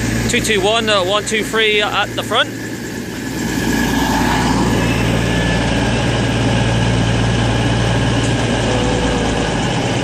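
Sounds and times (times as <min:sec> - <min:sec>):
diesel train engines humming: 0:00.0 - 0:10.0.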